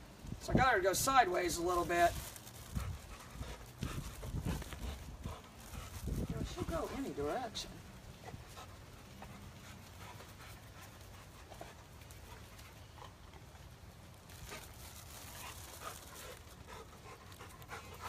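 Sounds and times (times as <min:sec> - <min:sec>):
dog panting: 0:02.2 - 0:13.7, 0:14.3 - 0:18.0.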